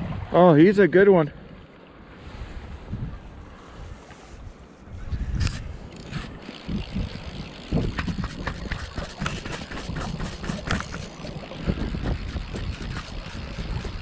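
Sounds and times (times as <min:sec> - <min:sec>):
wind buffeting microphone: 0:02.2 - 0:14.0.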